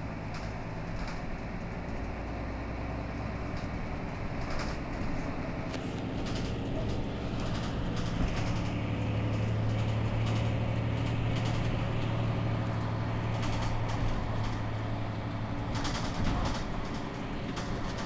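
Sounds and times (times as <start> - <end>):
bus engine idling: 0.0 - 18.0.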